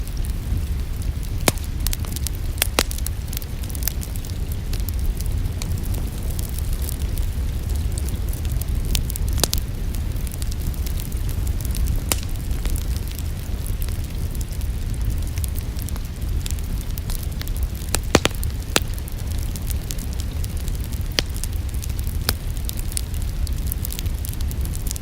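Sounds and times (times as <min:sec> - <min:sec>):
steady low rumble: 0:00.0 - 0:25.0
wood fire crackling: 0:00.0 - 0:25.0.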